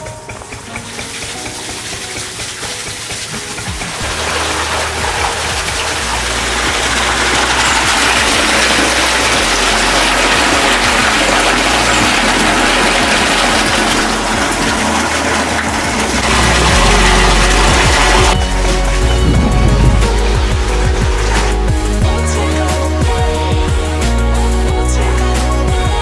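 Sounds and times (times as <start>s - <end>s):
water gushing from pump outlet: 0.3s - 26.0s.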